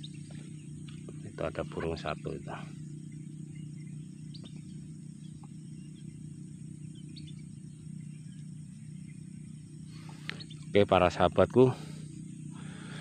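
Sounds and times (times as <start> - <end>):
faint bird chirps: 0.0 - 13.0
low outdoor hum: 0.0 - 13.0.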